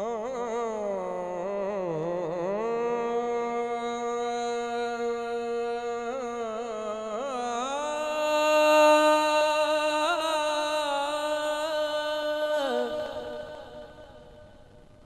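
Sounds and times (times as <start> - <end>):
man singing: 0.0 - 14.5.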